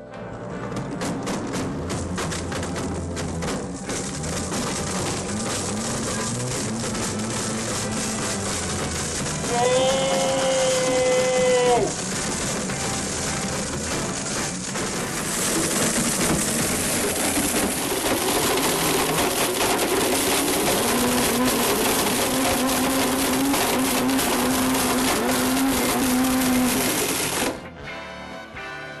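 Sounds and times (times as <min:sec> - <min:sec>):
blender grinding: 0:02.0 - 0:27.6
blender motor whine: 0:03.4 - 0:27.6.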